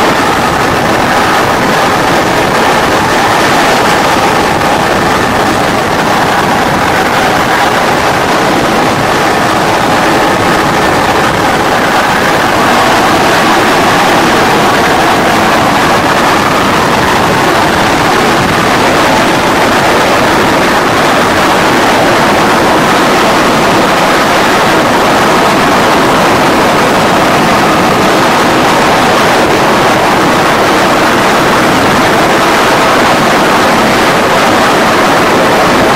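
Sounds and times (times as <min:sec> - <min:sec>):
helicopter engine and rotor noise: 0:00.0 - 0:35.9.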